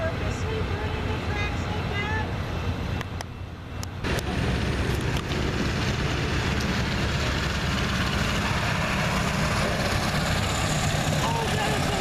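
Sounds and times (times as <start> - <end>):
broad rushing noise: 0.0 - 12.0
heavy diesel engine running: 0.0 - 12.0.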